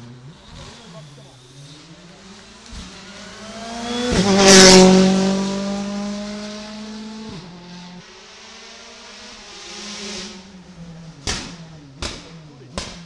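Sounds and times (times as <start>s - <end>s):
rally car engine passing: 0.0s - 13.0s.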